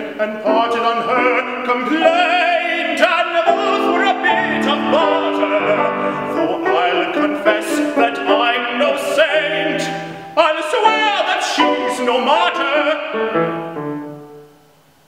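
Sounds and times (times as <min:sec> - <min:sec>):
man singing with vibrato: 0:00.0 - 0:14.0
grand piano: 0:00.0 - 0:15.0.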